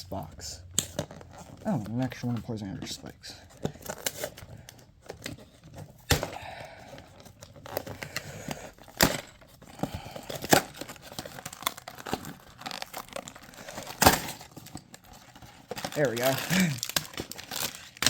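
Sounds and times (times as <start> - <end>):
plastic and paper crinkling and tearing: 0.0 - 18.0.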